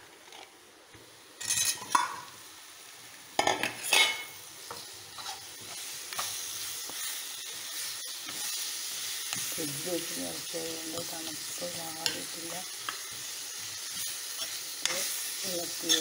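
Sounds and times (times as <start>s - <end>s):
meat sizzling in a pan: 0.9s - 16.0s.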